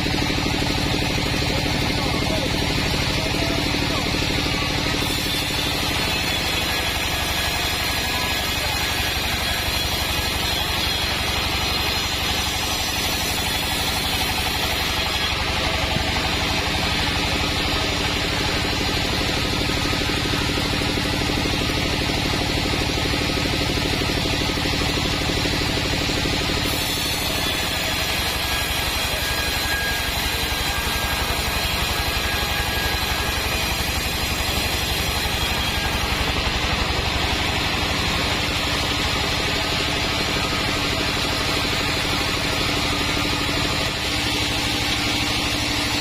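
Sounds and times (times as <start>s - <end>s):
band saw sawing wood: 0.0s - 46.0s
sawmill drone: 0.0s - 46.0s.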